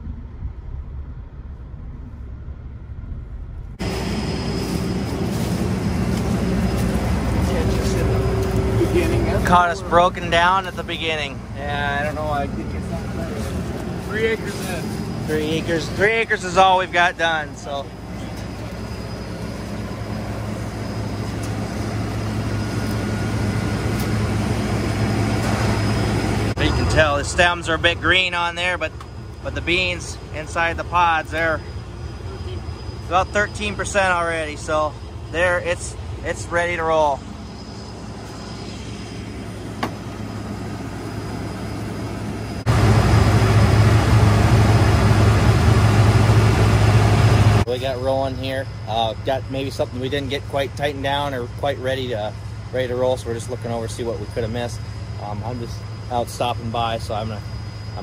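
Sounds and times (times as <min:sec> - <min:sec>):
combine diesel engine humming: 0:02.6 - 0:58.0.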